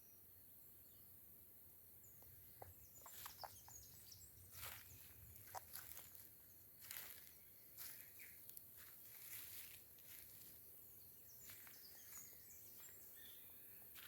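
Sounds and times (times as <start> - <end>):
bird chirps: 2.0 - 14.0.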